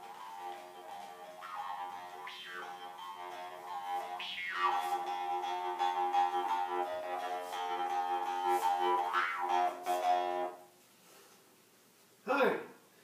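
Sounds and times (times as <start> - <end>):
jaw harp drone: 0.0 - 10.5.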